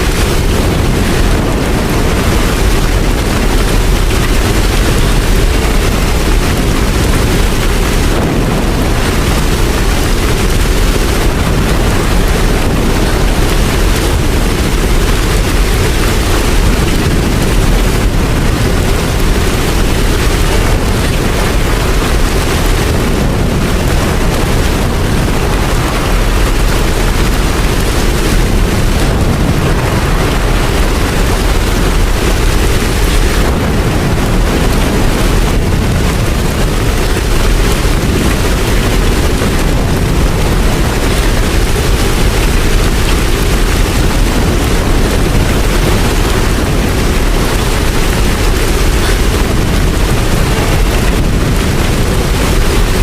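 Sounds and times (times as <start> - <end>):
rain hissing with deep rumble: 0.0 - 53.0.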